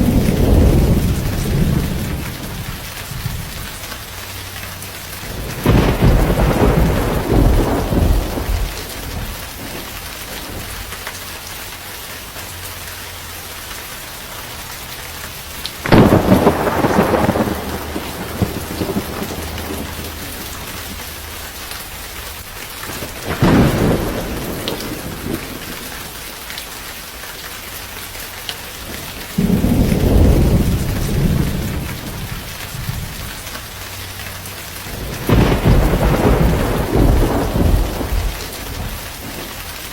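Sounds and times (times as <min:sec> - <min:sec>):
thunder claps and rumble: 0:00.0 - 0:11.5, 0:15.4 - 0:26.4, 0:28.8 - 0:39.9
steady rain: 0:00.0 - 0:39.9.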